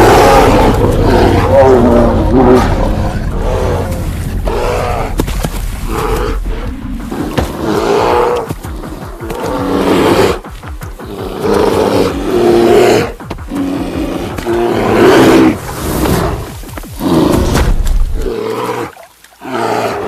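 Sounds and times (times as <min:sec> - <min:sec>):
bears roaring and growling: 0:00.0 - 0:20.0.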